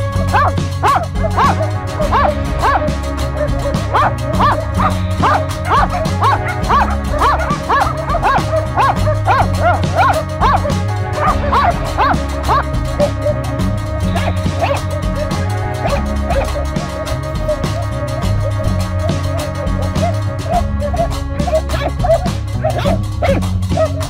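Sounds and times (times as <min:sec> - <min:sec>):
dogs barking rapidly: 0:00.0 - 0:24.0
music: 0:00.0 - 0:24.0.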